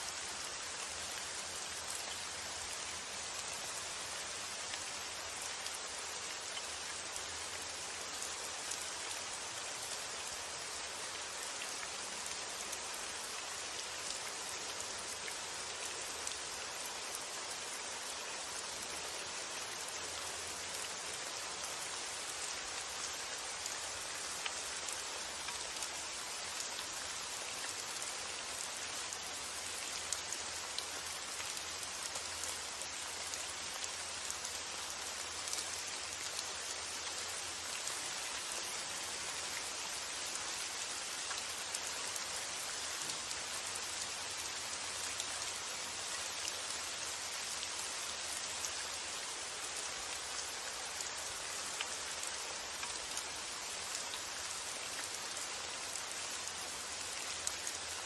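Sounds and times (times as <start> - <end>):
rain hissing: 0.0 - 58.0.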